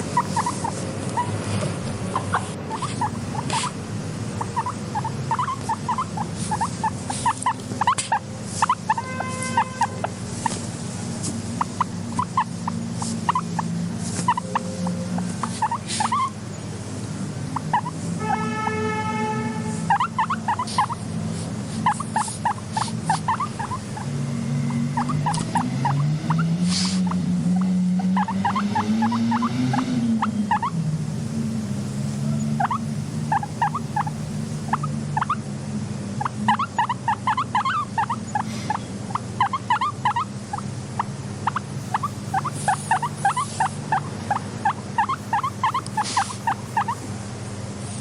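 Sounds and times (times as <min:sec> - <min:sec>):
guinea pig squeaking: 0:00.0 - 0:16.7, 0:17.5 - 0:30.8, 0:32.2 - 0:35.5, 0:36.1 - 0:47.1
steady low hum: 0:00.0 - 0:48.0.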